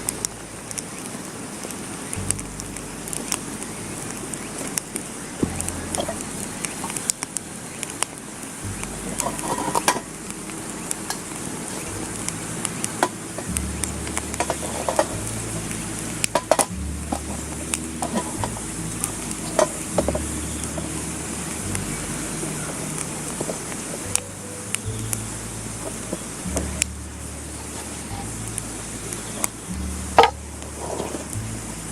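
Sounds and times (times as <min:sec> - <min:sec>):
campfire crackling and popping: 0:00.0 - 0:31.9.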